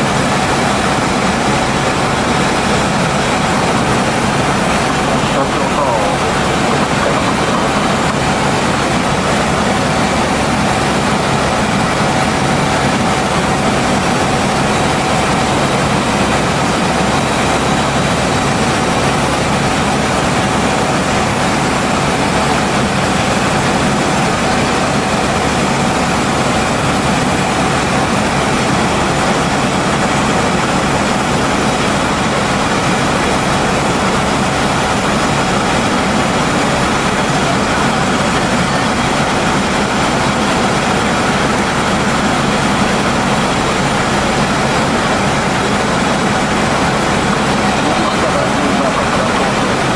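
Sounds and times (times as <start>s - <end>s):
helicopter engine and rotor: 0.0s - 49.9s
thin steady whine: 0.0s - 49.9s.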